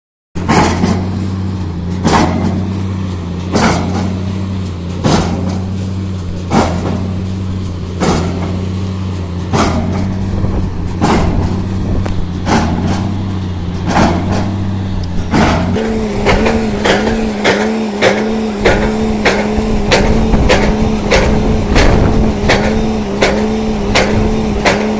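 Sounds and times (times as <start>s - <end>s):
sharp knocks: 0.4s - 4.4s, 5.0s - 5.8s, 6.5s - 7.1s, 8.0s - 8.7s, 9.4s - 24.9s
low diesel drone: 0.4s - 24.9s.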